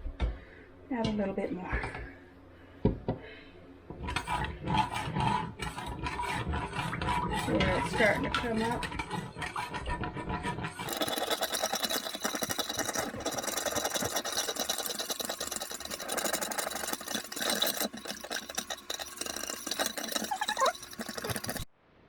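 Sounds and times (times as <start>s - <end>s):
wooden spoon scraping a pot: 3.9s - 21.7s
hot broth bubbling: 4.0s - 21.7s.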